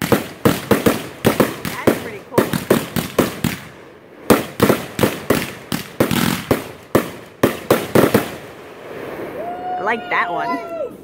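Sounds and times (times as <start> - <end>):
fireworks bangs: 0.0 - 10.5.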